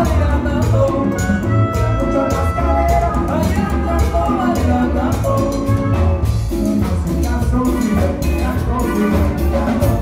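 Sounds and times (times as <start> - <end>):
live band playing latin dance music: 0.0 - 10.0.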